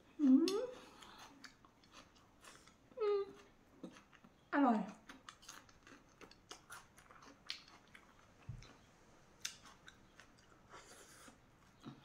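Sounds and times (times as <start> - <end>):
chewing vegetable: 0.2 - 12.0.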